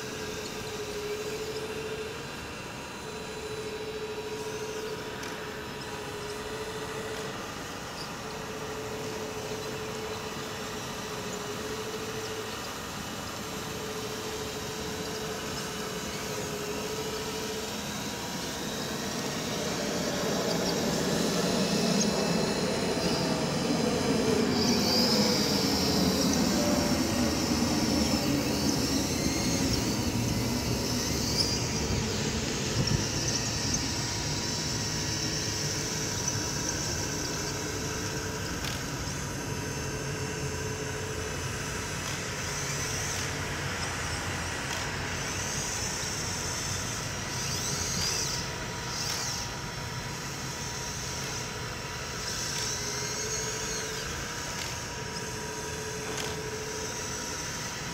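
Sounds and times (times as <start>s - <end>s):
electric motor whine: 0.0s - 57.9s
high hydraulic pump whine: 0.0s - 57.9s.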